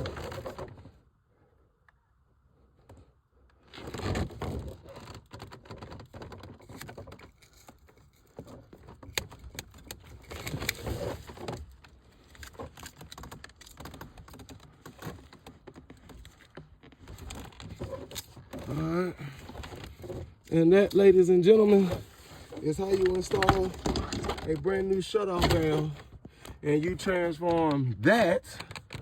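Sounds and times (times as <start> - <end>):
handling pipe fittings and tools: 4.7 - 29.0.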